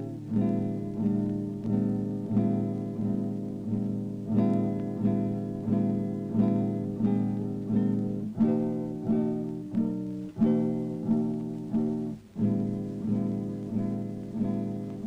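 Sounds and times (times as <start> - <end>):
guitar chords strummed rhythmically: 0.0 - 15.0.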